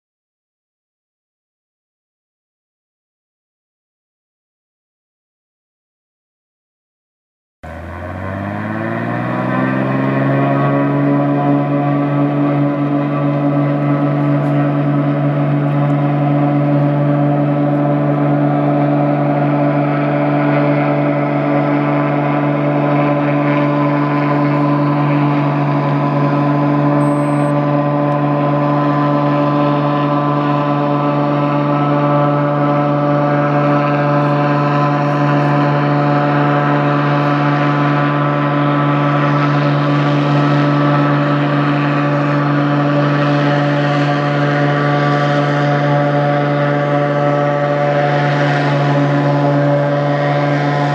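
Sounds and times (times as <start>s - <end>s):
propeller engine droning: 7.6s - 50.9s.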